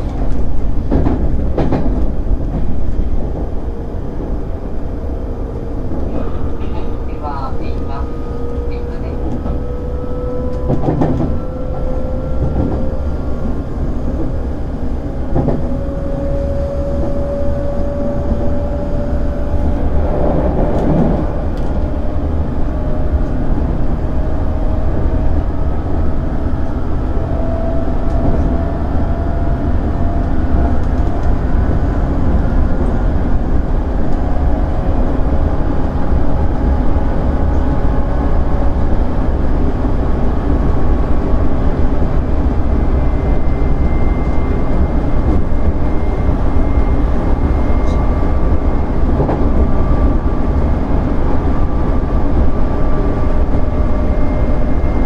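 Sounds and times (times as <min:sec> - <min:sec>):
train rumble and rising whine: 0:00.0 - 0:55.0.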